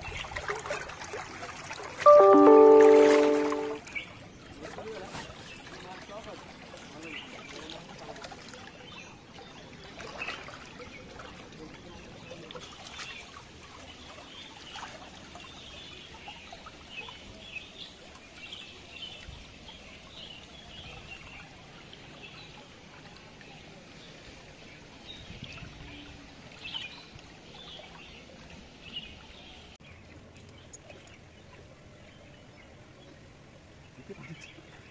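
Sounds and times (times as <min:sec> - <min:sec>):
floodwater flowing and trickling: 0:00.0 - 0:34.9.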